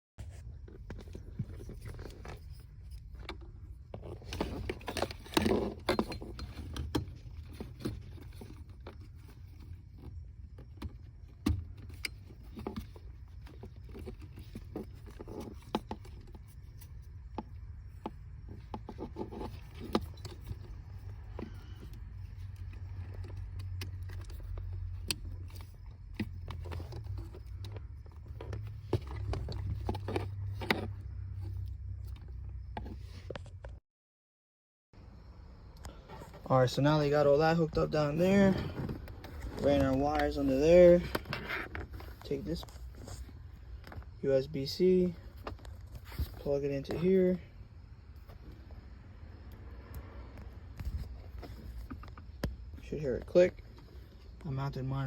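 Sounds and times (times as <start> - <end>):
hands working under dashboard: 0.2 - 33.8, 35.6 - 55.0.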